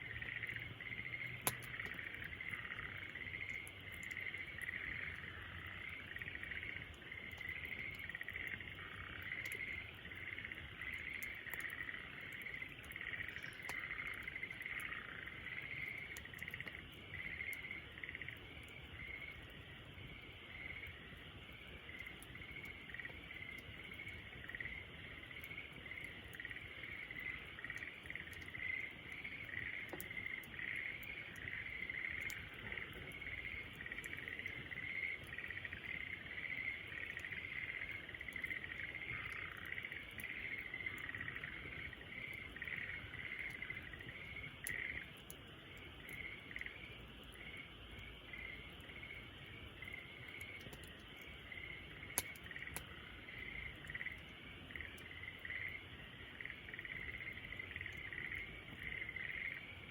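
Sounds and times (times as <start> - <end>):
campfire crackling: 0.0 - 59.9
crickets chirping: 0.0 - 59.9.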